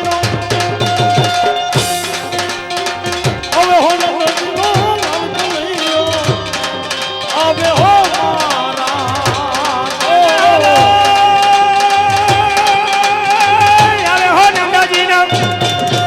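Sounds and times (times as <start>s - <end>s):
tabla beat: 0.0s - 16.0s
sliding melody line: 1.4s - 15.4s.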